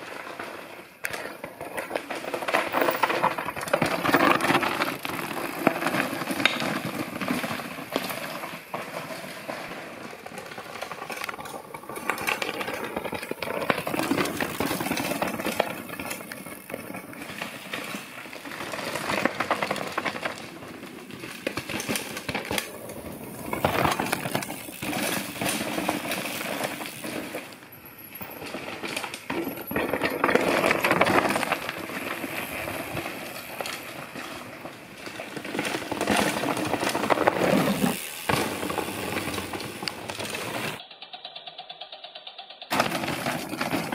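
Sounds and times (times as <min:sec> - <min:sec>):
bikes clattering: 0:00.0 - 0:43.9
tyres crunching over gravel: 0:00.1 - 0:40.8.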